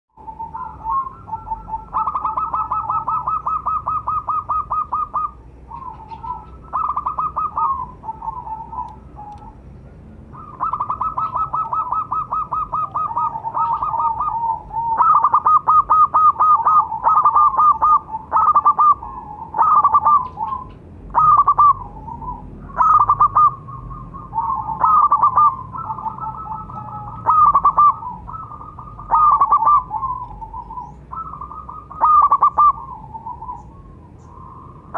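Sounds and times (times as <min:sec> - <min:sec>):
dove cooing in staccato coos: 0:00.2 - 0:34.9.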